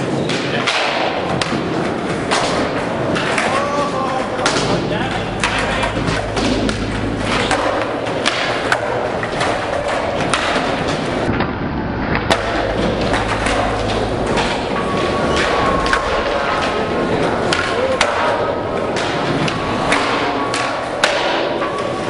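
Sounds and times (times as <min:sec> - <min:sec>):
skateboard wheels rolling: 0:00.0 - 0:22.0
skateboards clacking: 0:00.0 - 0:22.0.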